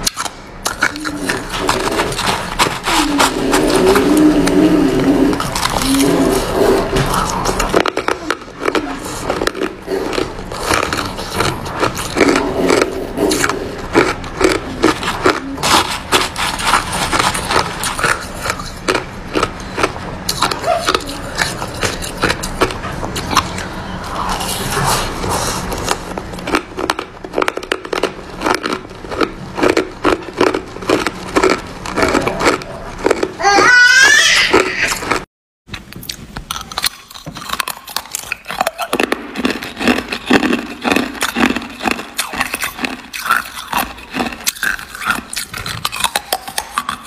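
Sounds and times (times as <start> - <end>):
ice crunching between teeth: 0.0 - 35.2, 35.9 - 47.0.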